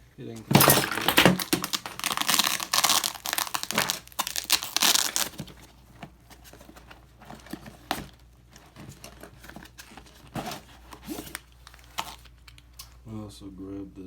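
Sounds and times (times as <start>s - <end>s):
tool bag rustling and crinkling: 0.3s - 12.6s.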